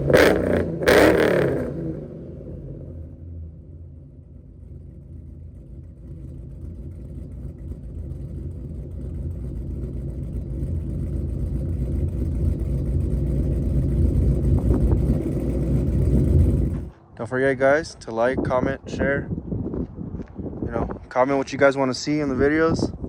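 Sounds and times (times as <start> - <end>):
deep truck exhaust tone: 0.0 - 23.0.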